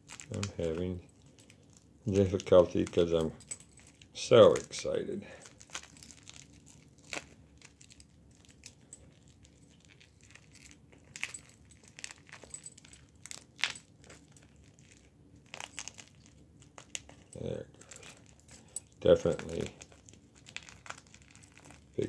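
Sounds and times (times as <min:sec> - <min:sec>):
plastic film crinkling: 0:00.0 - 0:22.0.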